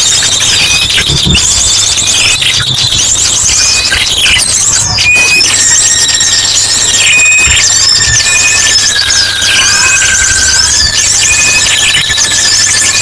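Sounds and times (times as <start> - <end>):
bird whistles: 0.0 - 13.0
chorus of small birds chirping: 0.0 - 13.0.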